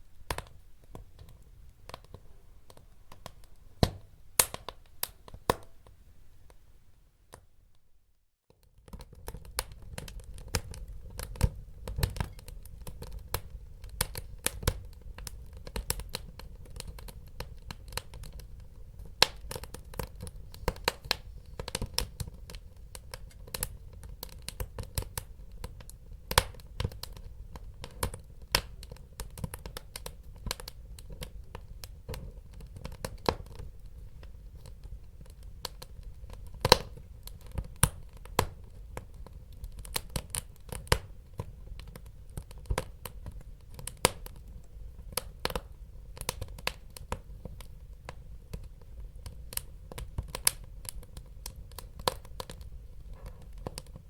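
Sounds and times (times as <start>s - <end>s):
wood fire crackling: 0.1s - 6.0s, 8.6s - 54.0s
low rumble of burning: 0.2s - 5.6s, 8.6s - 54.0s.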